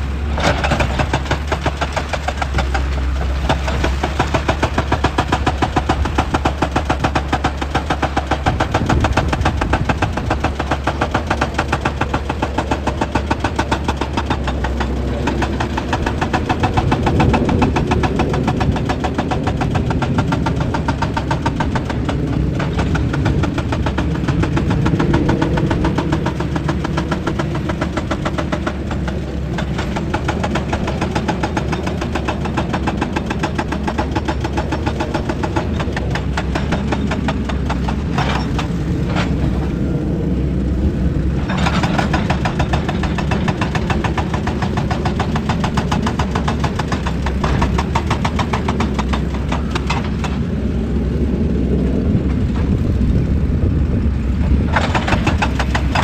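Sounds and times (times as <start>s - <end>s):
excavator diesel engine knocking: 0.0s - 56.0s.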